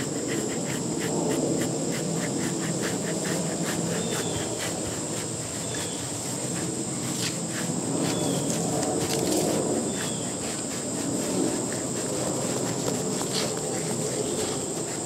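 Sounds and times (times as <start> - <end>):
brush rustling through dog fur: 0.0 - 15.0
insects chirping: 0.0 - 15.0.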